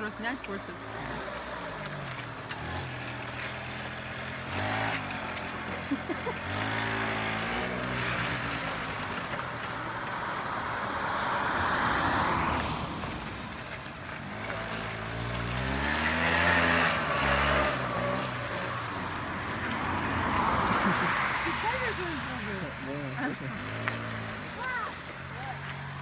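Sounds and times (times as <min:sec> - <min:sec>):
small engine revving: 0:00.0 - 0:26.0.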